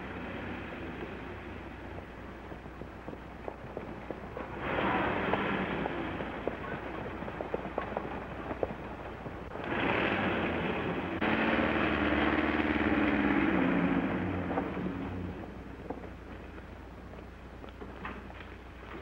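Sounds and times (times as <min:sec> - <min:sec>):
early motor car driving: 0:00.0 - 0:19.0
horses galloping: 0:00.0 - 0:19.0.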